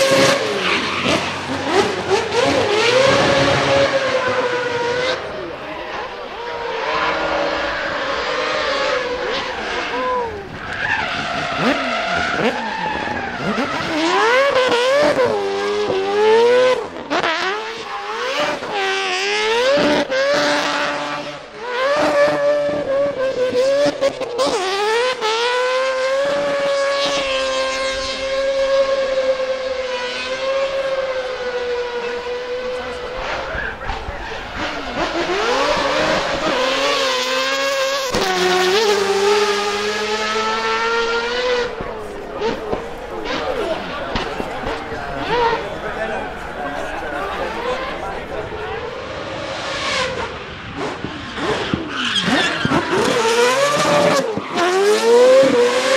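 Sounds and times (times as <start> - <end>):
rotary engine revving: 0.0 - 55.9
tyres spinning and skidding: 0.0 - 55.9.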